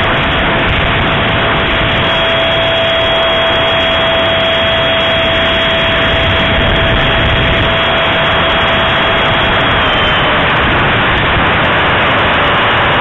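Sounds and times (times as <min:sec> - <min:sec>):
air rush: 0:00.0 - 0:13.0
electric ducted fan whine: 0:00.0 - 0:13.0.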